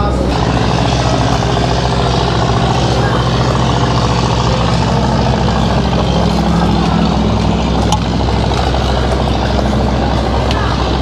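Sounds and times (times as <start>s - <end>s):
boat engines idling: 0.0s - 11.0s.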